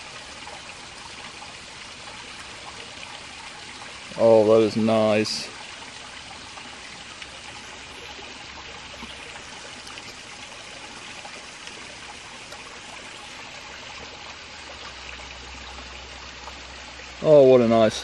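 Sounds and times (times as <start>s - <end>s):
creek water trickling and babbling: 0.0s - 18.0s.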